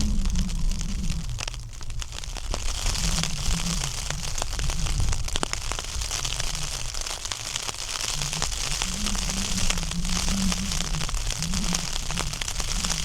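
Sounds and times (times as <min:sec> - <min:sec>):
gusting wind rumbling: 0:00.0 - 0:13.0
rain spattering: 0:00.0 - 0:13.0.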